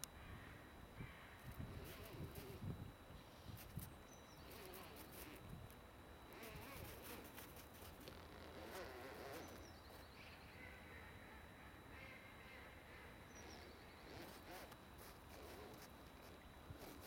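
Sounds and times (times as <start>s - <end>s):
distant birds calling: 0.1s - 2.6s, 3.2s - 17.0s.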